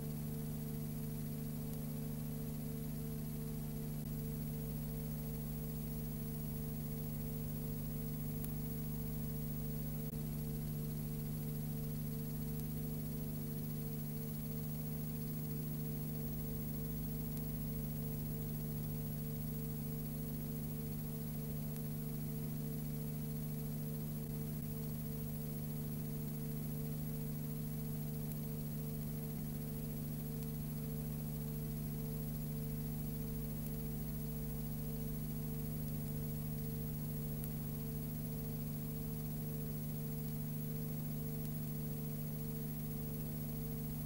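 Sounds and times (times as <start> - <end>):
constant hiss: 0.0 - 44.0
low electrical hum: 0.0 - 44.0.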